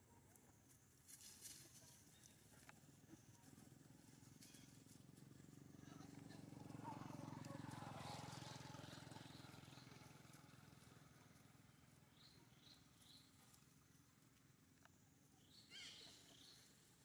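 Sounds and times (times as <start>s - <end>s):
faint engine hum: 0.0s - 17.0s.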